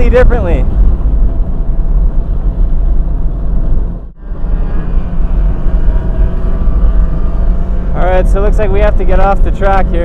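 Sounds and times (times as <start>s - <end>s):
car engine at speed: 0.0s - 10.0s
road rumble: 0.0s - 10.0s
wind rushing: 0.0s - 10.0s.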